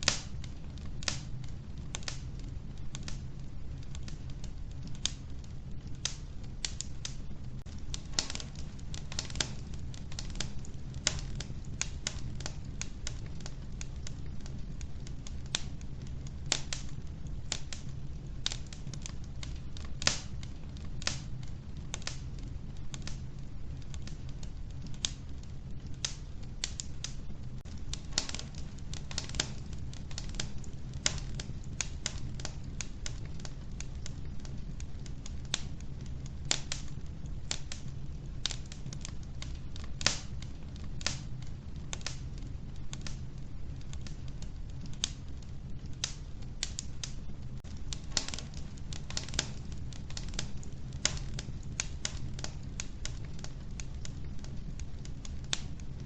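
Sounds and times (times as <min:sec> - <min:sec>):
low rumble of flames: 0:00.0 - 0:56.0
wood fire popping and snapping: 0:00.0 - 0:56.0.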